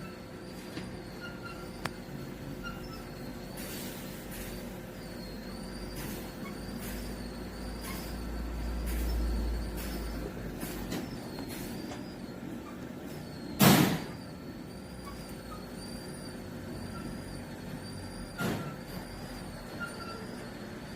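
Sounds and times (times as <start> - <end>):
bottle-filling machine humming: 0.0 - 20.9.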